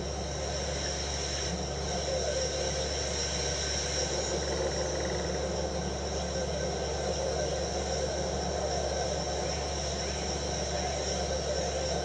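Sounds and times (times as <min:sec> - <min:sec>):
faint steady synthesized tones: 0:00.0 - 0:12.0.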